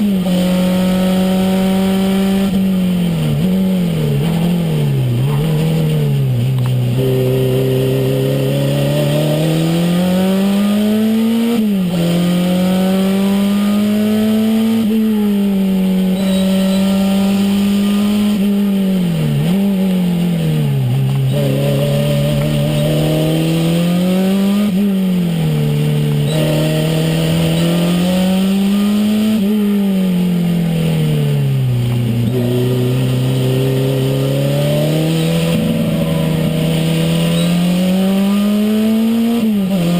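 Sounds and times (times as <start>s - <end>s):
car engine under hard driving: 0.0s - 39.9s.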